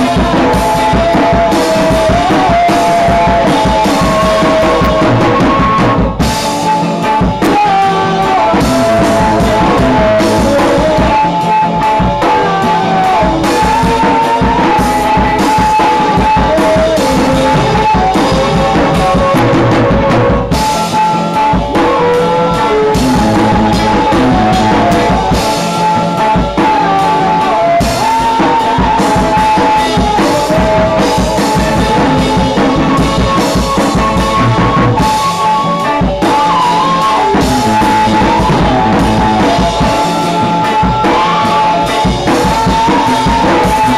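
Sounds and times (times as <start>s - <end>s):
drum kit with cymbals: 0.0s - 43.9s
electric guitars: 0.0s - 43.9s.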